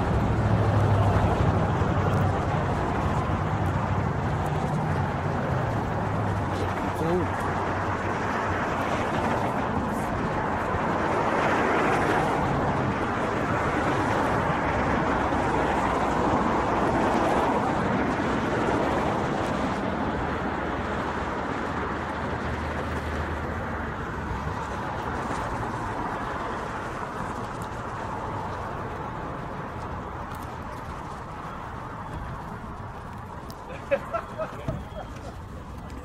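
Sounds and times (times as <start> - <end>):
road traffic passing: 0.0 - 36.0.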